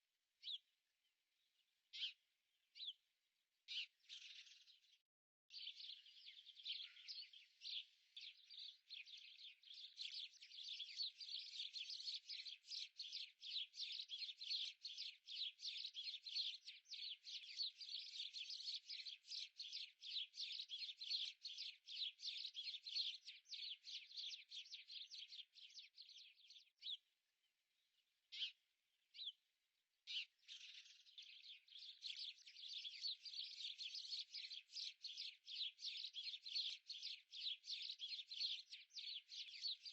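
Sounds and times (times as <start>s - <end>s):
small birds chirping: 0.4s - 39.9s.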